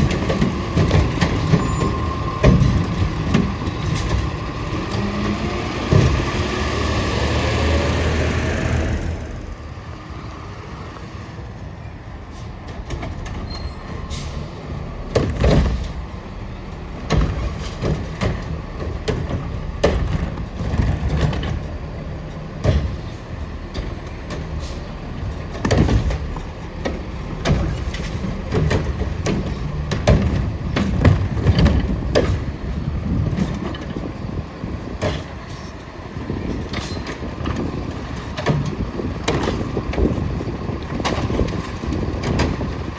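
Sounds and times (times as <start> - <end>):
garbage truck engine rumbling: 0.0 - 42.9.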